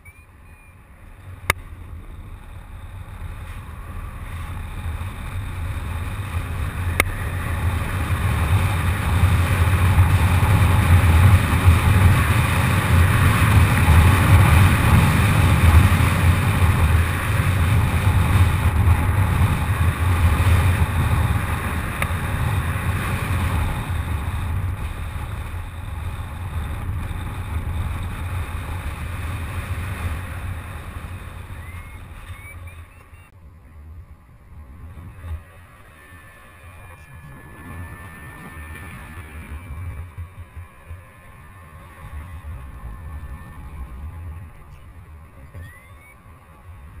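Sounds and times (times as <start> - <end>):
wind rushing over microphone: 0.0 - 47.0.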